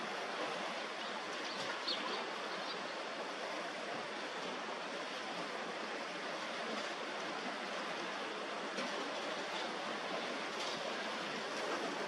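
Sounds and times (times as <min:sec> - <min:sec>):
small waves washing: 0:00.0 - 0:12.0.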